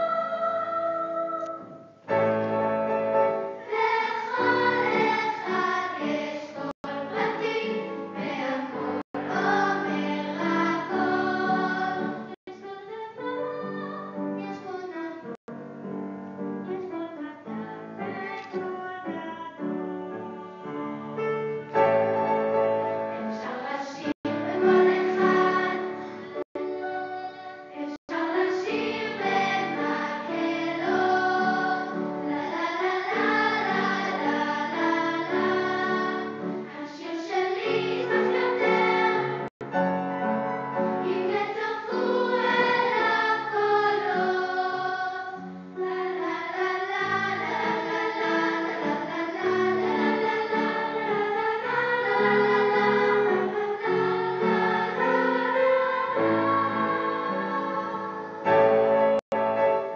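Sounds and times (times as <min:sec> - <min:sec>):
children's choir singing: 0:00.0 - 0:15.4, 0:16.9 - 0:39.5, 0:40.7 - 0:59.2.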